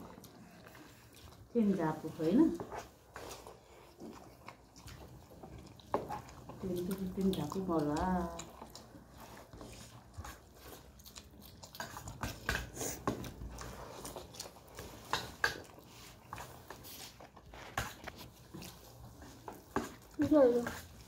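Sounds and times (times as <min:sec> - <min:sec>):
close-up chewing and mouth clicks: 0:00.0 - 0:21.0.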